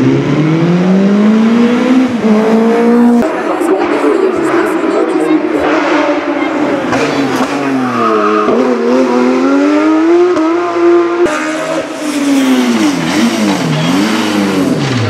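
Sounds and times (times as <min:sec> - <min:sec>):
racing car engine downshifting: 0:00.0 - 0:15.0
racing car engine upshifting: 0:00.0 - 0:15.0.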